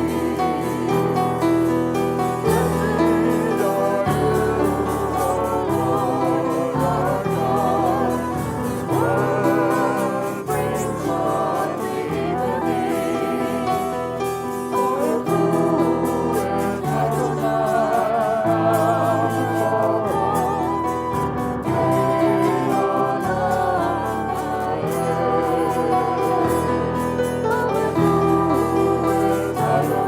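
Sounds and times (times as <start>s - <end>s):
keyboard accompaniment: 0.0s - 30.0s
voices singing with vibrato: 0.0s - 30.0s.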